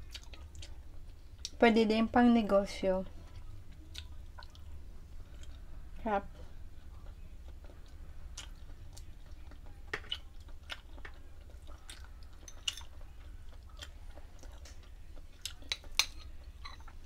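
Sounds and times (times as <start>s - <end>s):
person chewing sticky food: 0.0s - 1.6s, 3.3s - 5.7s, 6.5s - 17.0s.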